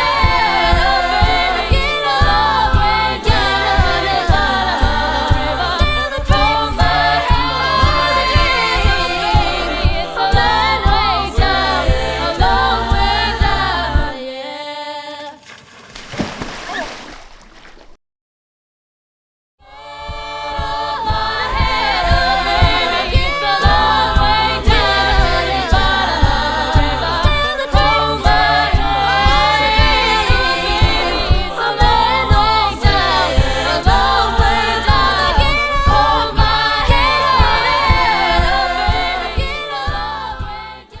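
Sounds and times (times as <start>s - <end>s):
steady low beat: 0.0s - 14.2s, 19.7s - 41.0s
a cappella group singing: 0.0s - 15.4s, 19.6s - 41.0s.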